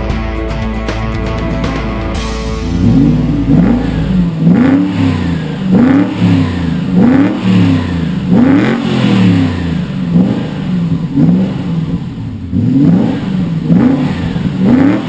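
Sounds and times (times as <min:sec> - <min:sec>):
car engine revving: 0:02.2 - 0:15.0.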